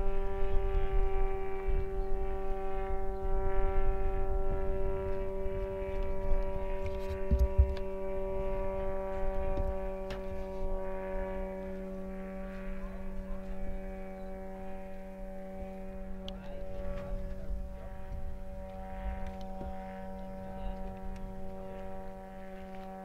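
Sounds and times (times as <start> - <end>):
distant model plane engine drone: 0.0 - 23.0
wind rumbling on microphone: 0.0 - 23.0.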